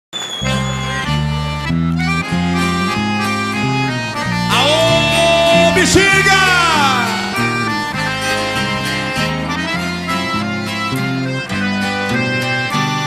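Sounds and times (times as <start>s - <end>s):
accordion-led band music: 0.2s - 13.0s
bass line: 0.5s - 13.0s.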